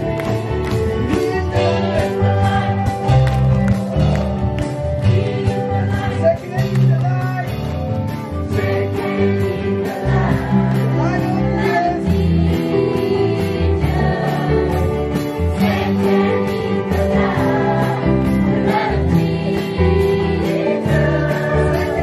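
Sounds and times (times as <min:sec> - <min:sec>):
group singing praise song: 0:00.0 - 0:03.5, 0:04.9 - 0:06.6, 0:08.2 - 0:22.0
electric and acoustic guitars: 0:00.0 - 0:22.0.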